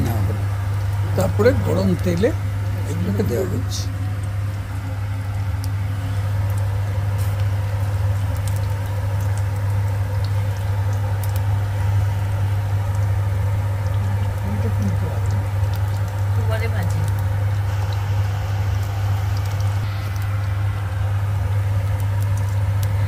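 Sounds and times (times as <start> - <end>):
constant low hum: 0.0 - 23.0
fritters sizzling in hot oil: 0.0 - 23.0.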